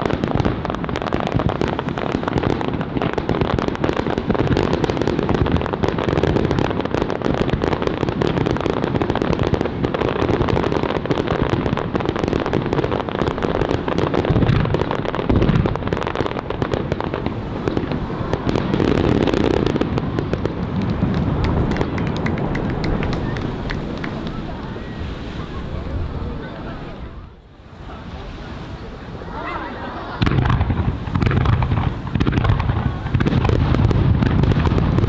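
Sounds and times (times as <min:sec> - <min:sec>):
fireworks booms: 0:00.0 - 0:35.0
fireworks crackling: 0:00.0 - 0:35.0.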